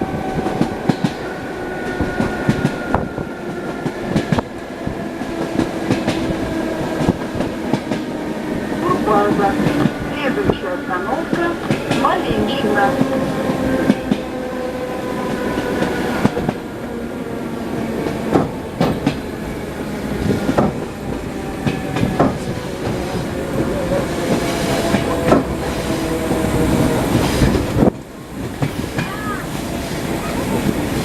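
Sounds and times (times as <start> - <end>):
train running hum: 0.0 - 31.0.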